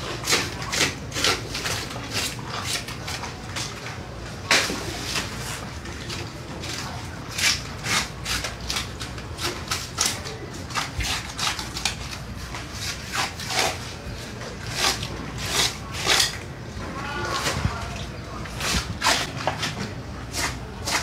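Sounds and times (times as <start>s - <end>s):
knife cutting under fish hide: 0.0s - 3.8s, 4.5s - 16.4s, 18.5s - 21.0s.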